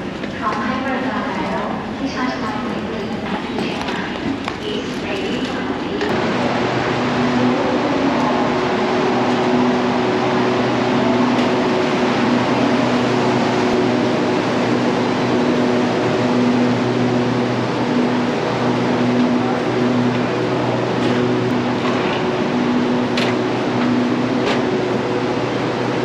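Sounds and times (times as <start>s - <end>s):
train air conditioning hum: 0.0s - 26.0s
low drone tones: 4.6s - 26.0s.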